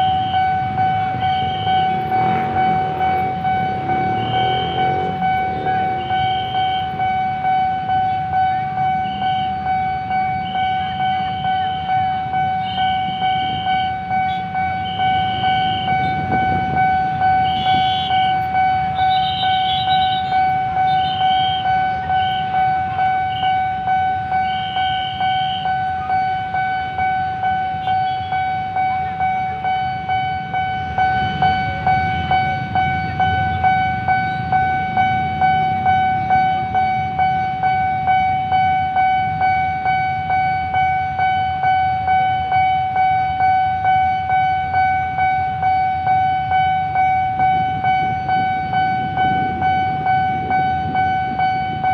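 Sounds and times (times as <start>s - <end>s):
motorbike engines idling: 0.0s - 25.2s, 26.0s - 40.3s, 44.6s - 51.9s
level crossing alarm pulsing: 0.0s - 51.9s.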